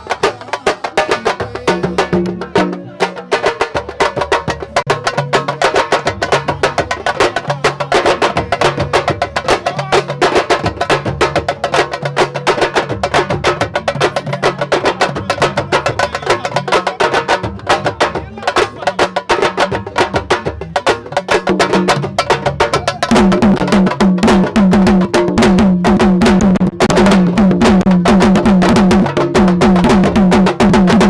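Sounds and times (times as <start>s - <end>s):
drum ensemble fast rhythm: 0.0s - 31.0s.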